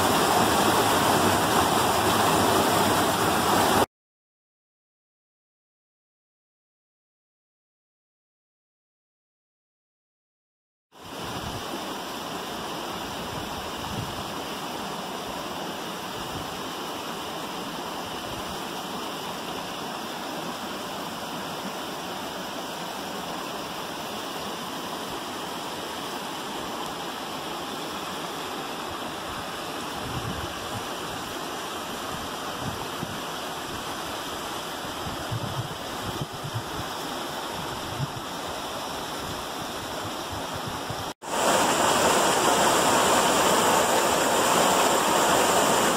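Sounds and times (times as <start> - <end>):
water rushing over boulders: 0.0 - 3.9, 11.0 - 45.9.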